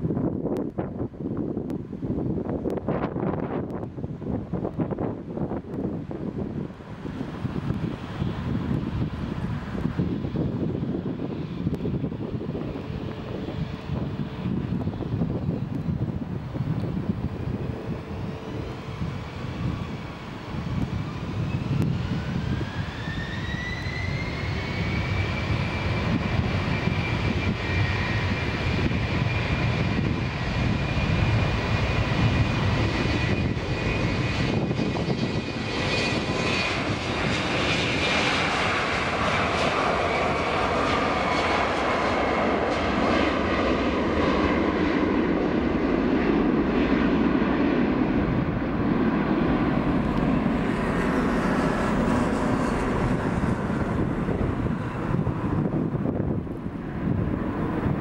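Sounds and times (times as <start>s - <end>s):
jet engines spooling up: 0.6s - 58.0s.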